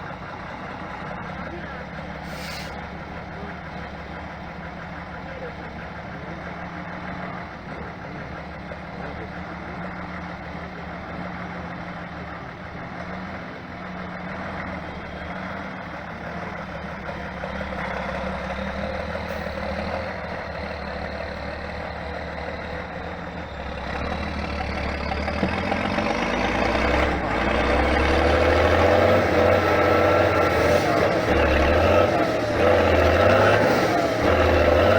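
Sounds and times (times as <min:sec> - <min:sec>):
diesel truck engine revving: 0:00.0 - 0:34.9.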